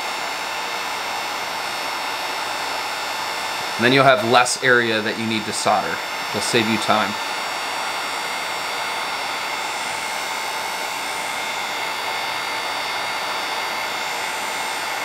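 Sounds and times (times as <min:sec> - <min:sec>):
heat gun blowing air: 0:00.0 - 0:15.0.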